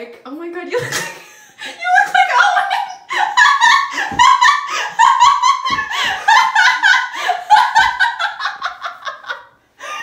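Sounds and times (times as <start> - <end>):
girls giggling: 0.8 - 10.0.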